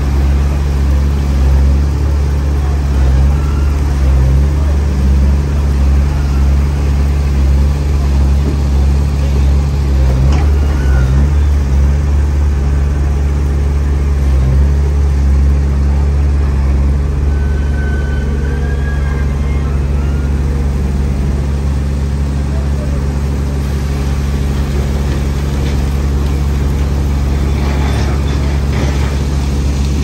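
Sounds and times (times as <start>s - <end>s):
diesel machinery droning: 0.0s - 30.0s.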